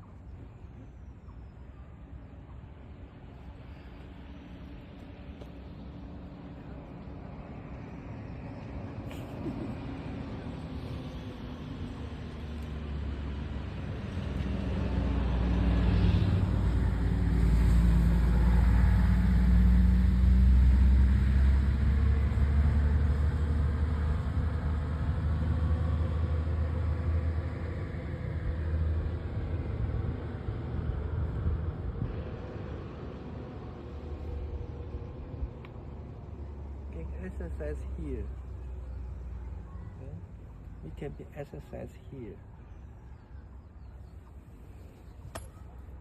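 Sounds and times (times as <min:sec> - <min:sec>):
motor vehicle passing by: 0:05.5 - 0:42.4.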